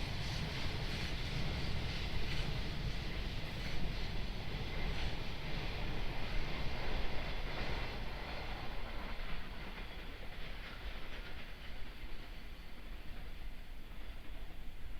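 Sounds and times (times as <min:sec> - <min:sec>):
train wheels clattering: 0:00.0 - 0:14.7.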